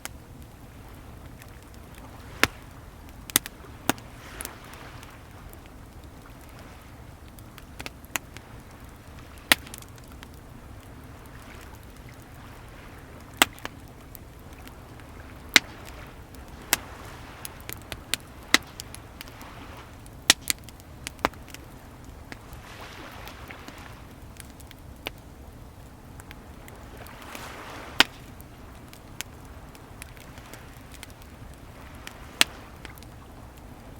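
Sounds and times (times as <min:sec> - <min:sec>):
sea waves: 0:00.0 - 0:33.9
wood fire crackling and popping: 0:00.0 - 0:33.9.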